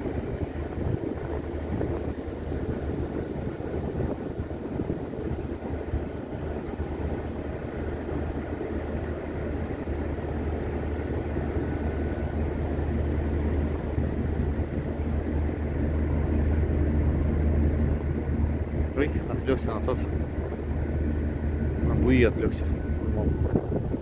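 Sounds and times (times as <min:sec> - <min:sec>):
rushing wind: 0:00.0 - 0:24.0
ship engines droning: 0:00.0 - 0:24.0
water noise: 0:00.0 - 0:24.0.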